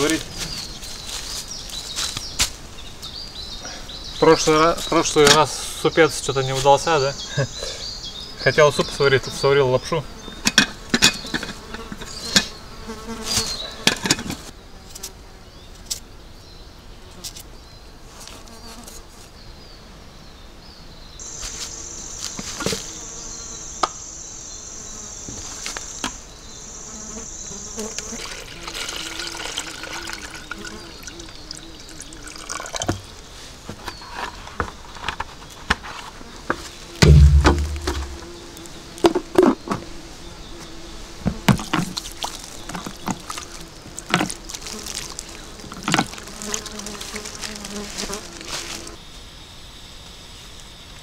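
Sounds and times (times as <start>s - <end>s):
insects buzzing: 0.0s - 51.0s.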